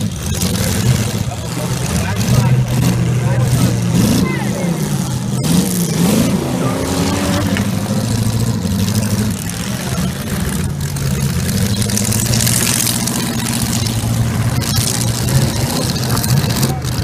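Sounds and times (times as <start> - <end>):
car engines running: 0.0 - 17.0.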